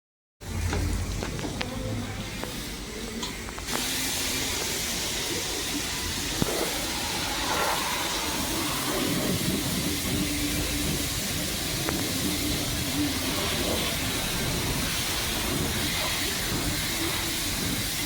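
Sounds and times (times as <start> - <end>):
water spraying hiss: 1.8 - 18.0.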